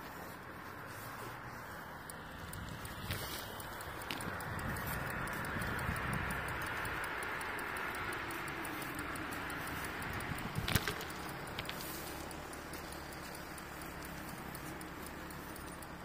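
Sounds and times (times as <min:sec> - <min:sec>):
bicycle tyre and wind noise: 0:00.0 - 0:16.0
light ticking: 0:00.0 - 0:16.0
sharp rattle: 0:00.0 - 0:16.0.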